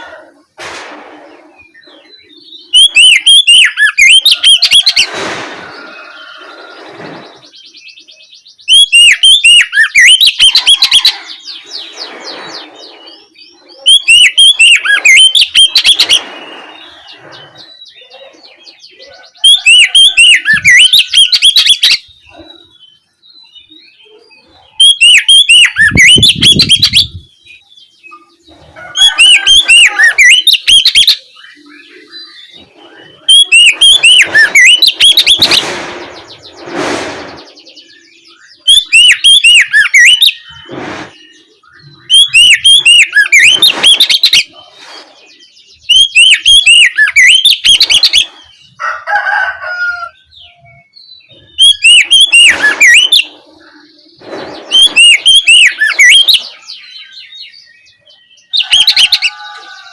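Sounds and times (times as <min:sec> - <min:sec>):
magpie-robin singing: 0:01.6 - 0:05.1, 0:07.3 - 0:35.5, 0:37.4 - 0:44.6, 0:45.3 - 0:48.8, 0:50.2 - 0:59.5.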